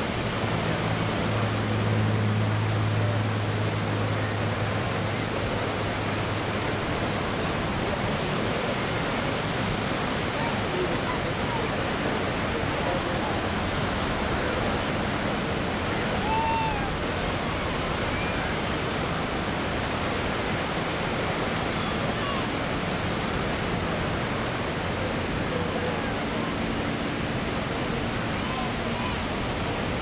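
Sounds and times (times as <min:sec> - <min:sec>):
rushing outdoor noise: 0:00.0 - 0:30.0.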